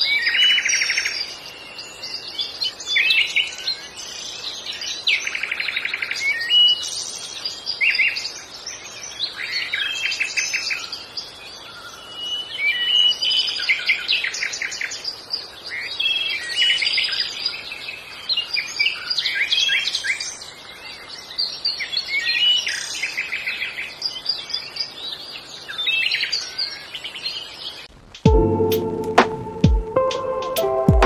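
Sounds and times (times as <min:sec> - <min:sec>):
small birds chirping and trilling: 0:00.0 - 0:27.9.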